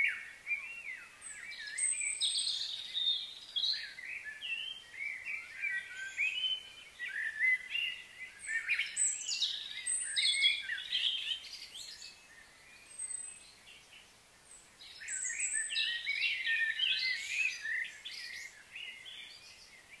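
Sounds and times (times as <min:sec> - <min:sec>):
birds singing and chirping: 0:00.0 - 0:20.0.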